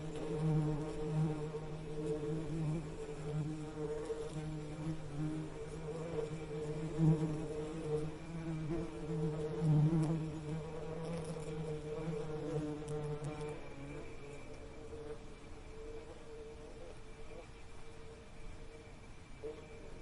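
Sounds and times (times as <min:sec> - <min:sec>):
bees buzzing: 0:00.0 - 0:17.4.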